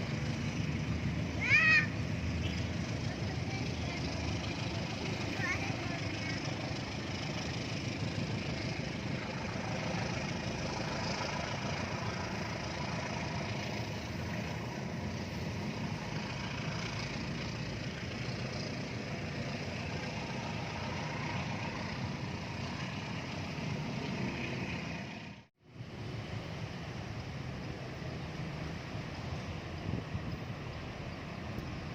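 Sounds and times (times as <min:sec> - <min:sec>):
heavy engine rumbling: 0:00.0 - 0:31.9.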